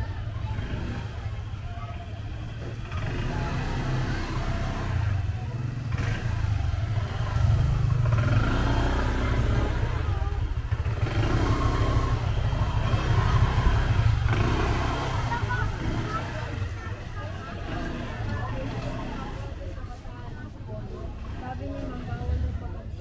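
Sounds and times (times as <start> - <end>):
traffic engines rumbling: 0.0 - 23.0.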